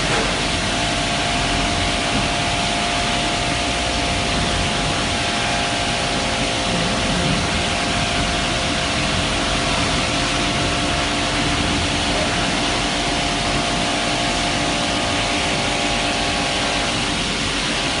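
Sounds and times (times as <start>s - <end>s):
constant rushing noise: 0.0s - 18.0s
milling machine whine: 0.0s - 18.0s.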